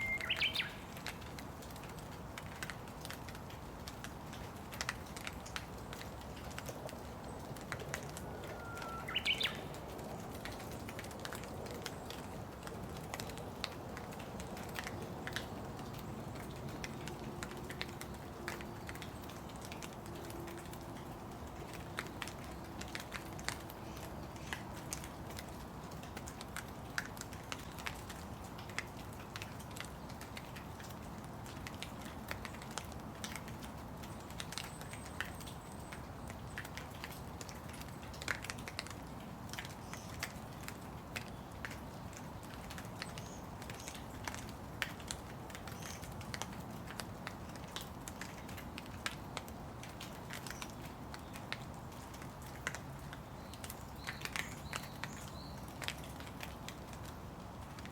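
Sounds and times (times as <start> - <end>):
raindrops tapping: 0.0 - 57.9
steady rain hiss: 0.0 - 57.9.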